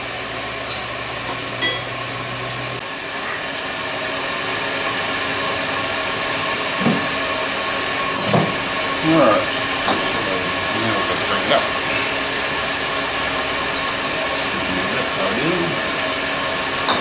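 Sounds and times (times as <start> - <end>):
milling machine whirring: 0.0 - 17.0.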